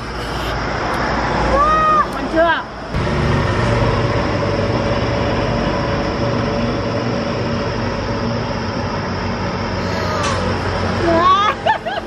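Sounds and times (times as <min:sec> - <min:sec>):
motor vehicle engine droning: 0:00.0 - 0:12.0.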